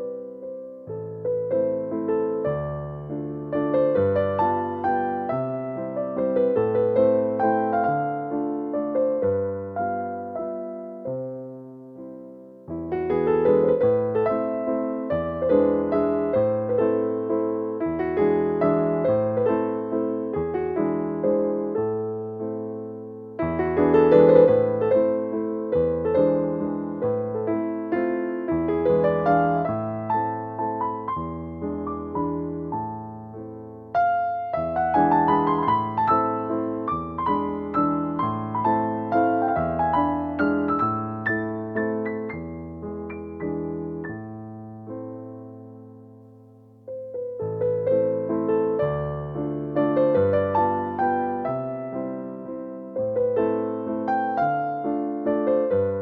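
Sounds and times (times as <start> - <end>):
gentle piano music: 0.0 - 56.0.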